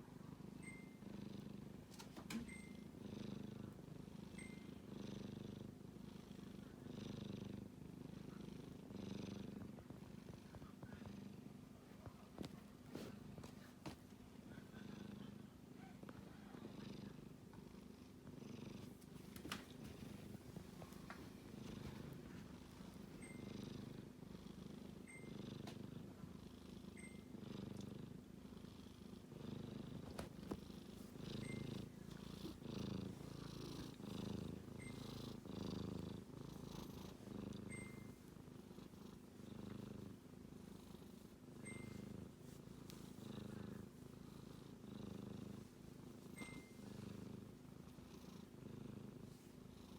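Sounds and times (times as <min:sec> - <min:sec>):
kitten snoring: 0:00.0 - 0:13.7, 0:14.4 - 0:19.0, 0:19.9 - 0:49.9.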